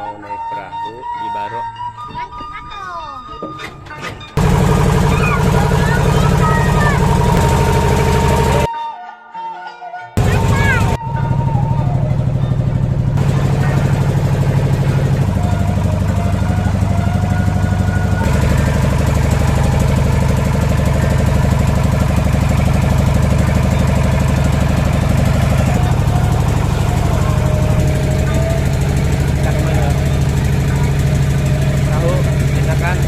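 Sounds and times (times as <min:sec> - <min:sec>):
boat engine running: 0:00.0 - 0:08.7, 0:10.2 - 0:33.0.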